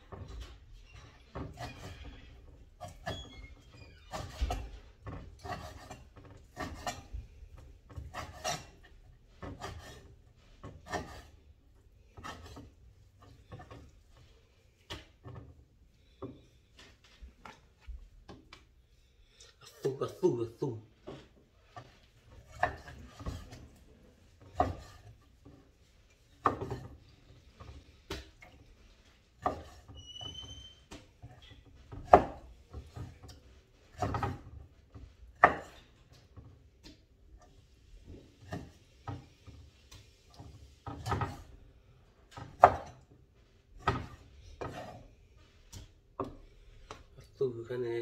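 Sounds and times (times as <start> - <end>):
knocks and scrapes on board: 0.0 - 18.7, 21.0 - 47.1.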